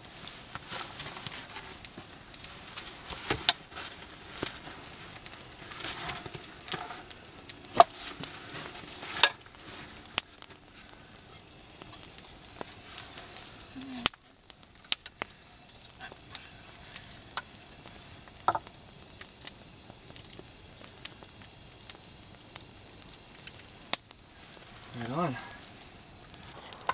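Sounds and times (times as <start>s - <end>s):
campfire crackling: 0.0s - 26.9s.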